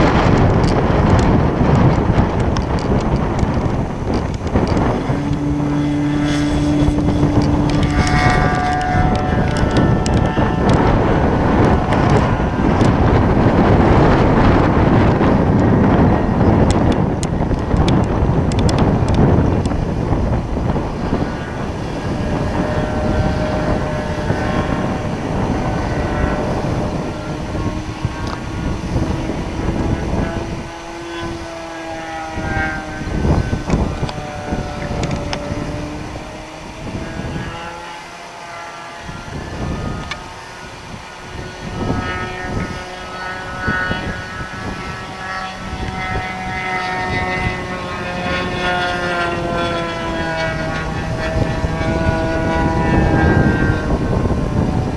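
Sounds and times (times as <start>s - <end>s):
faint model airplane engine: 0.0s - 54.9s
wind buffeting microphone: 0.0s - 54.9s.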